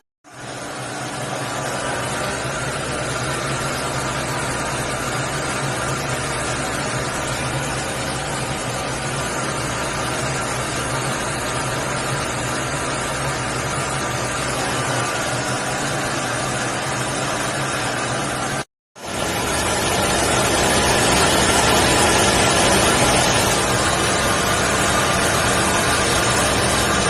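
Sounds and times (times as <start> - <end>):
washing machine running: 0.2 - 27.0.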